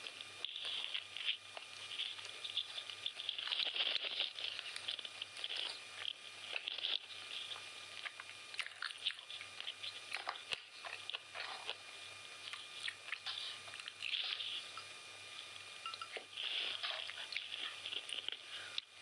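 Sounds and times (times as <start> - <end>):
wet chewing and biting: 0.0 - 19.0.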